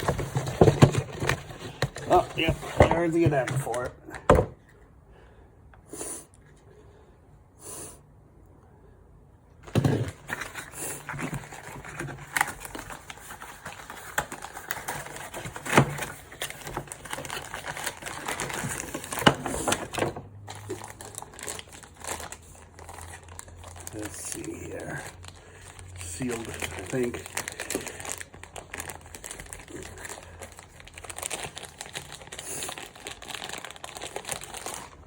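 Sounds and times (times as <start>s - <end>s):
packaging clicks and rustles: 0.0s - 3.9s, 9.6s - 35.0s.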